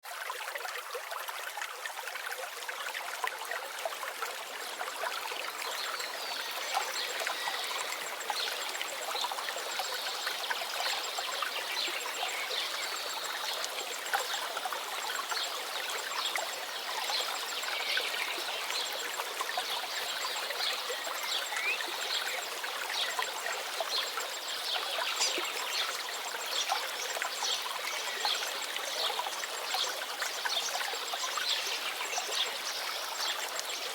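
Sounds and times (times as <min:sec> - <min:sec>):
stream babbling over stones: 0:00.0 - 0:33.9.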